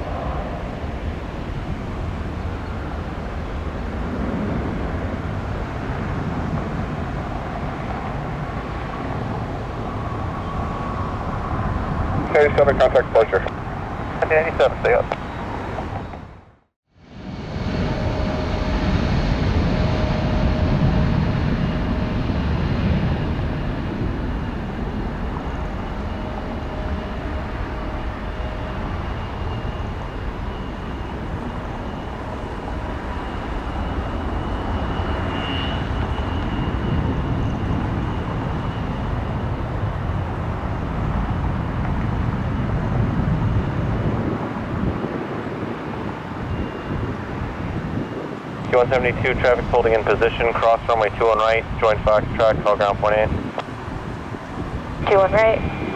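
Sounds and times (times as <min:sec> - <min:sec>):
faint high jet whine: 0:00.0 - 0:16.4, 0:17.0 - 0:55.9
jet engine rush: 0:00.0 - 0:16.4, 0:17.0 - 0:55.9.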